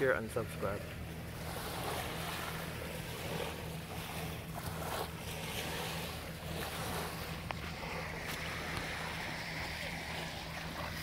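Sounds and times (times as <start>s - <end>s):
low steady hum: 0.0s - 11.0s
small waves breaking on shore: 0.0s - 11.0s.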